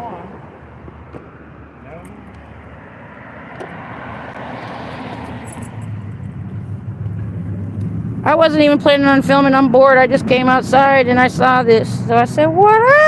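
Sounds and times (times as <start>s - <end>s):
car passing: 0.0s - 13.0s
low engine hum: 0.0s - 13.0s.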